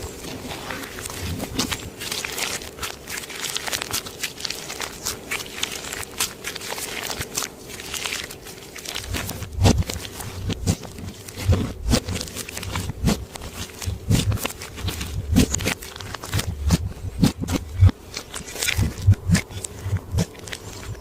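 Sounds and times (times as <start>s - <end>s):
slime crackly sticky clicking: 1.0s - 21.0s.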